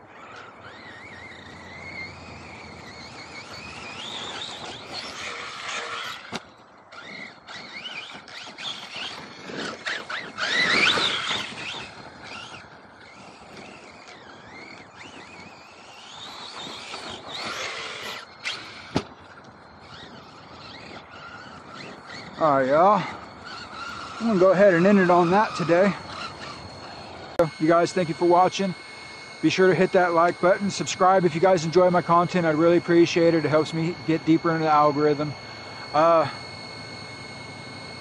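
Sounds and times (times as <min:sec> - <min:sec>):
electric motor whining: 0:00.0 - 0:38.0.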